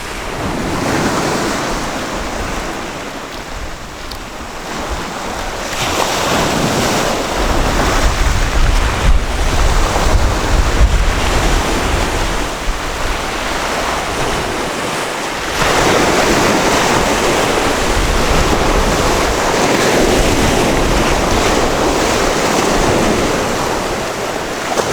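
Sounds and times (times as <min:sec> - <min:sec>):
sea waves breaking on beach: 0:00.0 - 0:24.9
wind rumbling on microphone: 0:00.0 - 0:24.9.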